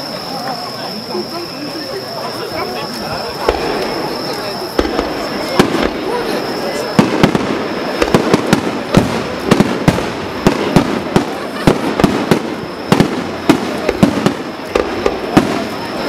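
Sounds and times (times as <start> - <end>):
firework crackling hiss: 0.0 - 16.0
firework bangs: 3.1 - 16.0.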